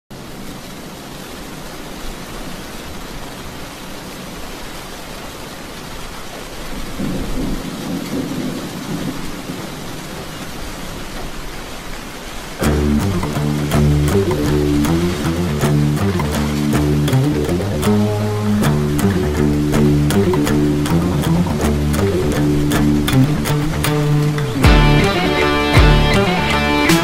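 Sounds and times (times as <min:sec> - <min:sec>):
steady rain falling: 0:00.1 - 0:27.0.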